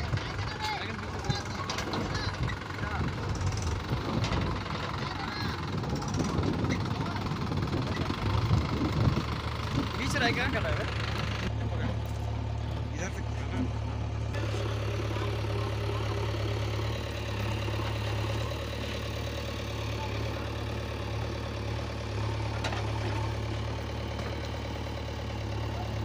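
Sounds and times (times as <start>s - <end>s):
diesel engines running at low revs: 0.0s - 26.0s.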